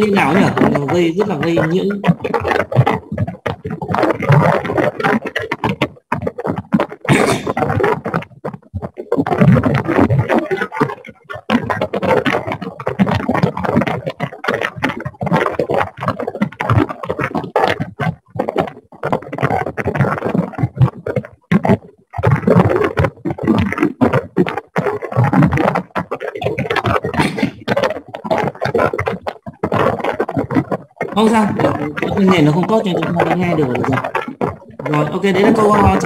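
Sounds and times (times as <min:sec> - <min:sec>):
crackling microphone interference: 0:00.0 - 0:36.0.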